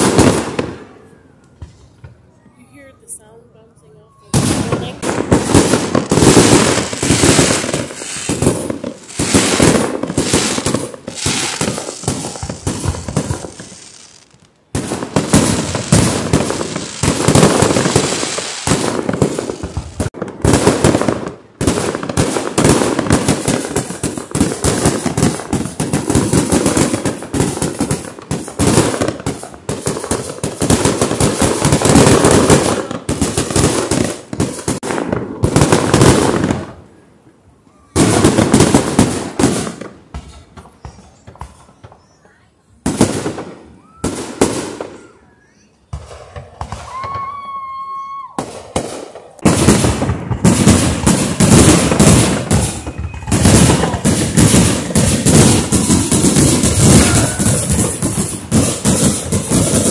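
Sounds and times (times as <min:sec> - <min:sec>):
fireworks bangs and crackle: 0:00.0 - 0:03.4, 0:04.1 - 0:59.9.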